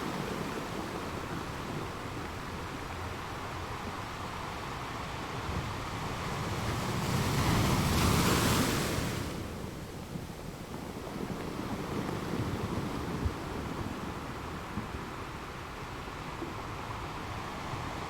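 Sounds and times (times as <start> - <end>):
ocean waves breaking: 0.0 - 18.0.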